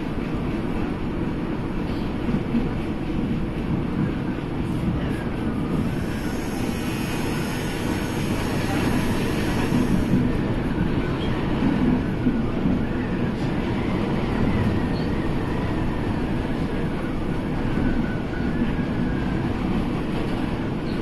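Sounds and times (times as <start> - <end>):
monorail cabin rumble: 0.0 - 21.0.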